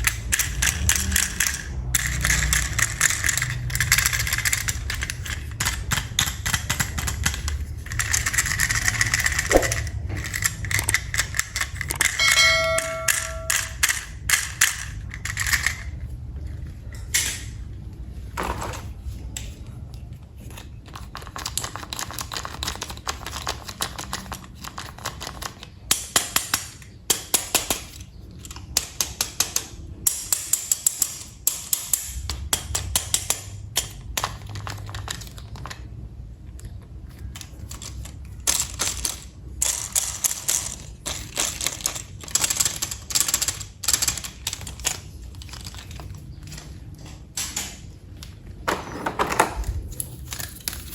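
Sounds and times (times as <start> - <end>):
plastic toy parts clicking: 0.0 - 12.4, 13.0 - 15.9, 20.4 - 35.9, 36.5 - 46.6.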